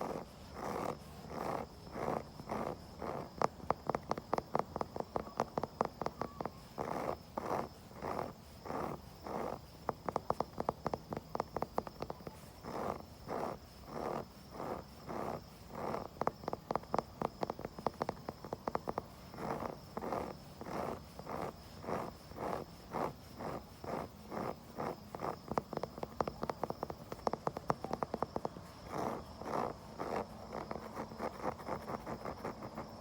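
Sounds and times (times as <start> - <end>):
scratching on wood: 0.0 - 33.0
tapping on wood: 0.7 - 33.0.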